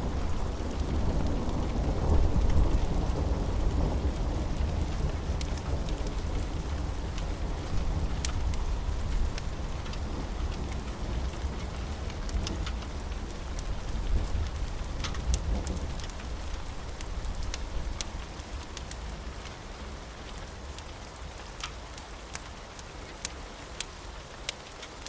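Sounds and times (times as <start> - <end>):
steady rain: 0.0 - 25.0
sharp ticks and crackles: 0.1 - 25.0.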